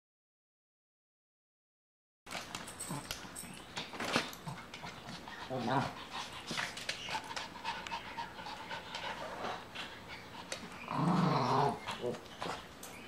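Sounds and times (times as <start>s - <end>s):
dogs panting: 2.5s - 13.0s.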